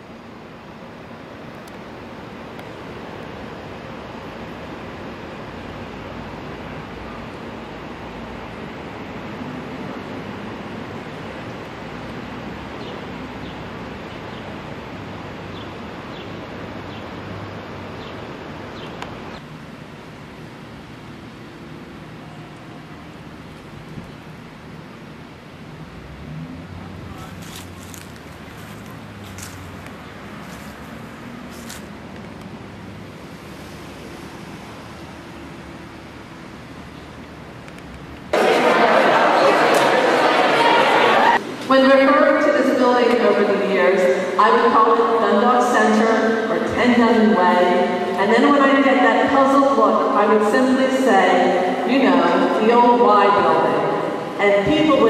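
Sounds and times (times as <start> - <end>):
distant traffic: 0.0 - 55.0
wind: 0.0 - 55.0.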